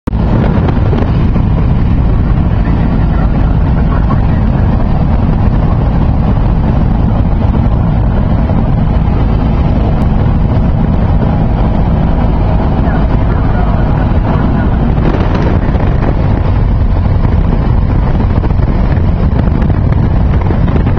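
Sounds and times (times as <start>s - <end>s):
propeller plane engine droning: 0.0s - 20.9s
wind noise: 0.0s - 20.9s.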